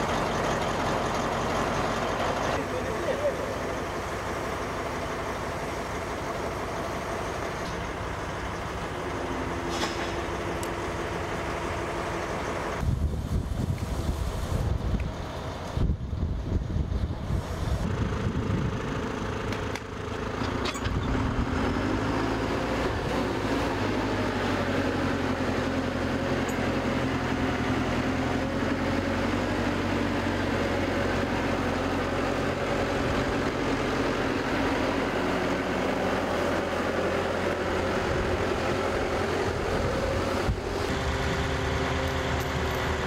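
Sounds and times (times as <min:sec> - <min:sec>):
heavy engine idling: 0:00.0 - 0:43.0.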